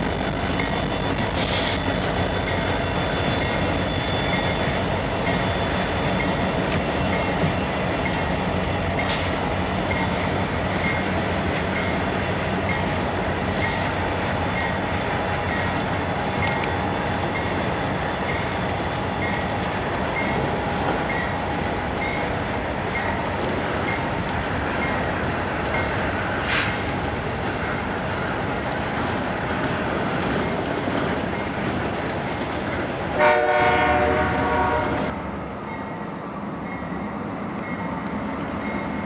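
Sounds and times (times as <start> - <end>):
diesel locomotives rumbling: 0.0 - 39.0.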